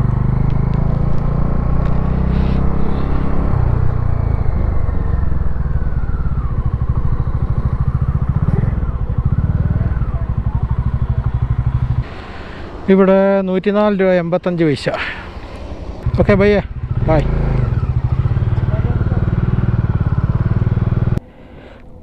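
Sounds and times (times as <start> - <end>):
motorcycle engine running: 0.0 - 12.8, 15.4 - 21.2.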